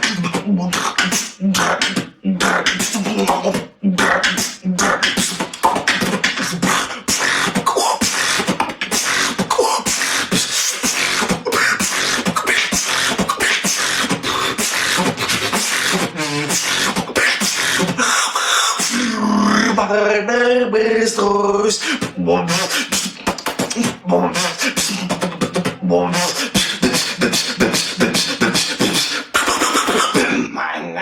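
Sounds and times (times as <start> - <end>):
person beatboxing: 0.0 - 20.2, 20.8 - 31.0
warbling vocal effect: 0.0 - 31.0.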